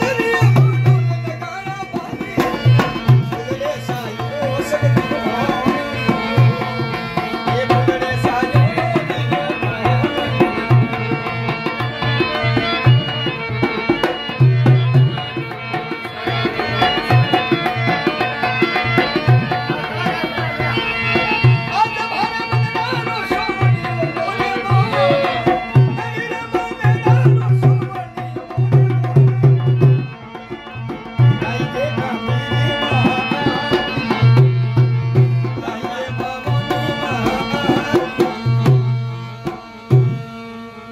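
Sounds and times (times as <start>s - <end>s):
hand drum rhythm: 0.0s - 40.4s
held melody notes: 0.0s - 40.9s.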